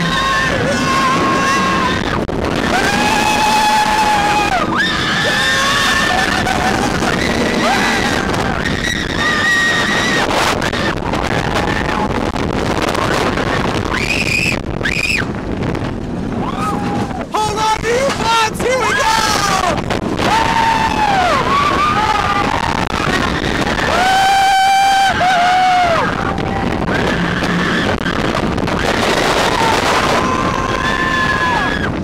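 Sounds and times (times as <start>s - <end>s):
roller coaster riders screaming: 0.0s - 32.0s
rush of wind and ride noise: 0.0s - 32.0s.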